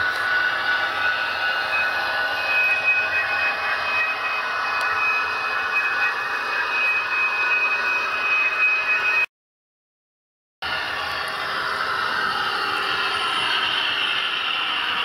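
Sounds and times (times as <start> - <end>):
model train wheels whirring: 0.0 - 9.2, 10.7 - 15.0
thin steady whine: 0.0 - 9.3, 10.6 - 15.0.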